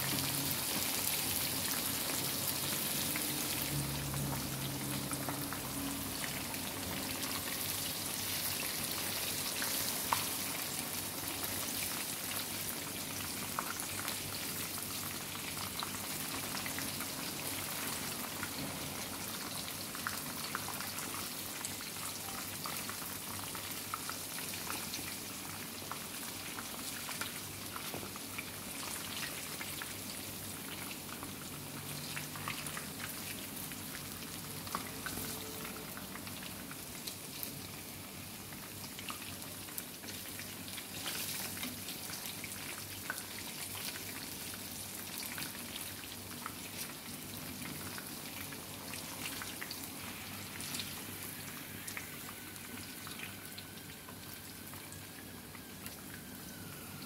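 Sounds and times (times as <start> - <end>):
food frying in hot oil: 0.0 - 57.0.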